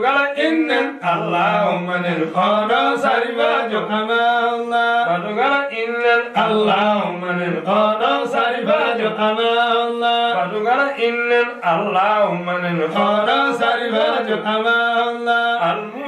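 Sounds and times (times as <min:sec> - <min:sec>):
men chanting devotional poem: 0:00.0 - 0:16.0.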